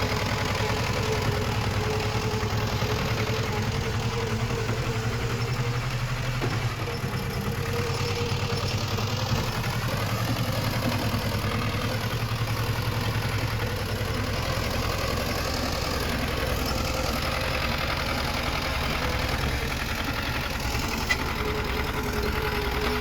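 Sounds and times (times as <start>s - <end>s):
heavy diesel machinery engine: 0.0s - 23.0s.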